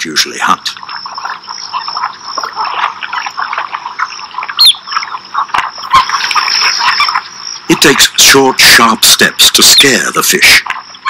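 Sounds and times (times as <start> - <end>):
chorus of small calling animals: 0.0 - 11.0.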